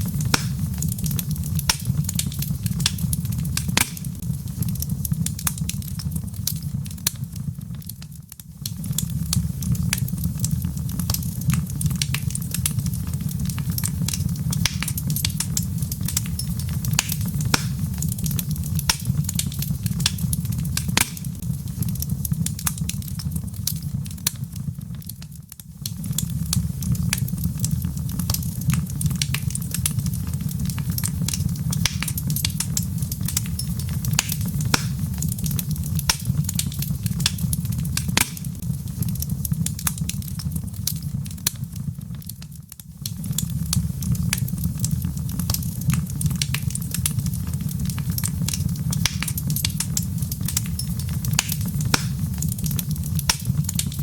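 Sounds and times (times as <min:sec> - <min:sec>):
burning wood crackling: 0:00.0 - 0:54.0
low rumble of flames: 0:00.0 - 0:54.0.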